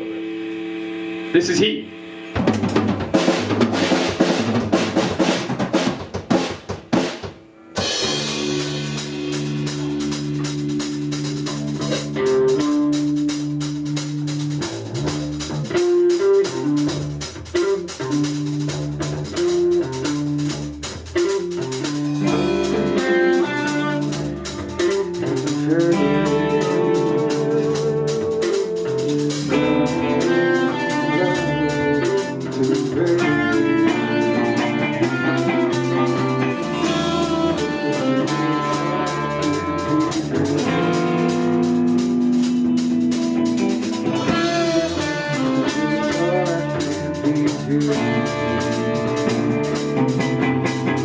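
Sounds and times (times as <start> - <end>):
drums: 0.0 - 51.0
live rock band playing: 0.0 - 51.0.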